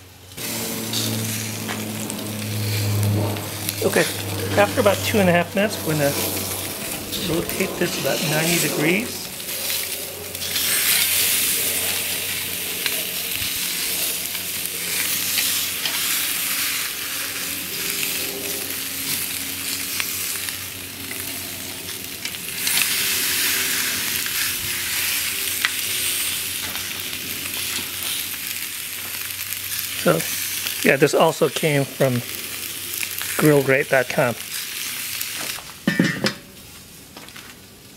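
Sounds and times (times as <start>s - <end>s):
steaks sizzling on a grill: 0.3s - 35.9s
metal spatula turning steaks: 0.4s - 30.8s.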